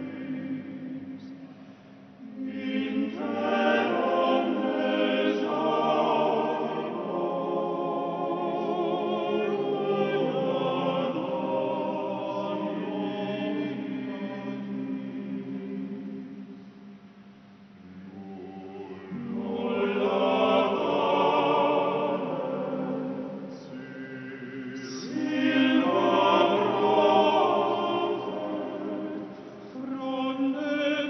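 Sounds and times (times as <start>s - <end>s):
choir chanting long held notes: 0.0s - 1.3s, 2.2s - 16.7s, 17.8s - 31.0s.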